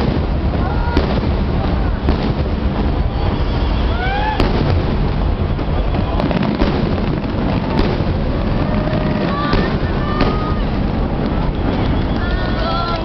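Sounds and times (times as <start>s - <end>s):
fireworks booming: 0.0s - 13.0s
rising firework whistle: 0.0s - 13.0s
sharp firework cracks: 0.0s - 13.0s.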